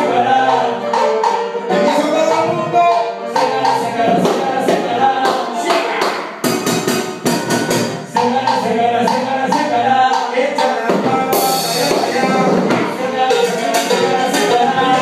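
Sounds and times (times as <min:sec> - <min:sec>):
latin band playing: 0:00.0 - 0:15.0
percussion strikes: 0:00.5 - 0:15.0.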